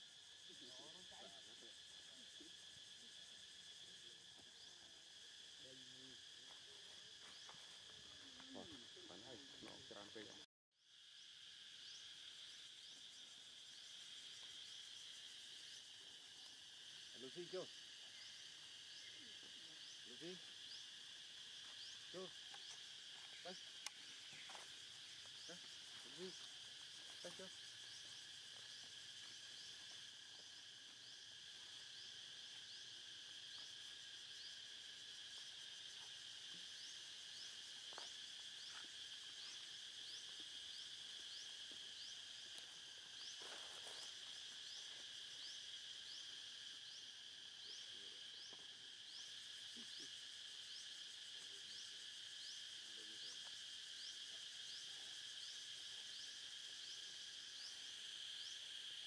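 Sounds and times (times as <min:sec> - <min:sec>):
insect chorus: 0:00.0 - 0:59.0.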